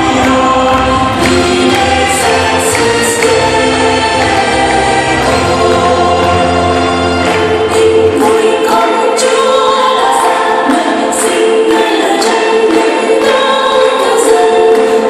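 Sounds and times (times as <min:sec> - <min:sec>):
children's choir singing a carol: 0:00.0 - 0:15.0.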